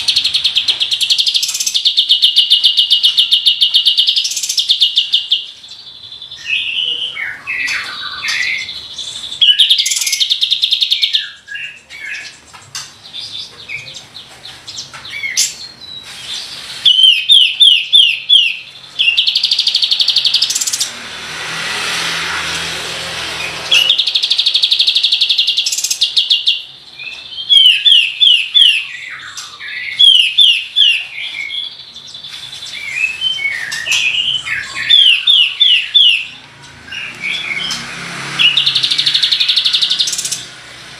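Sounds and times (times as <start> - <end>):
bird singing trills and whistles: 0.0 - 20.9, 23.4 - 40.6.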